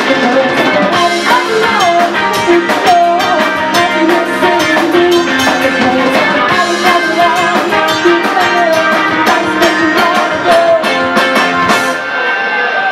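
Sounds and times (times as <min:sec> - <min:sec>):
woman singing: 0:00.0 - 0:11.6
drum kit beat: 0:00.0 - 0:12.1
electric guitar: 0:00.0 - 0:12.9.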